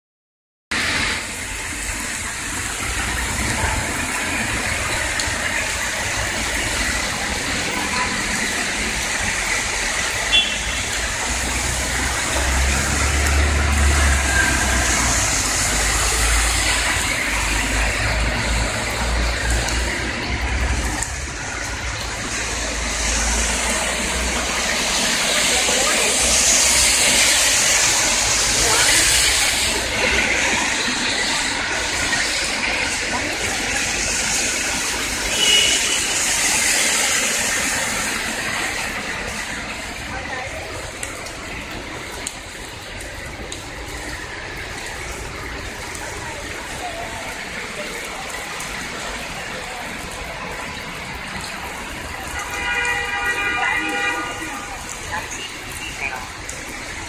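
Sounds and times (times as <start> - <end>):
heavy rain: 0.7 - 57.0
traffic hissing on wet road: 0.7 - 57.0.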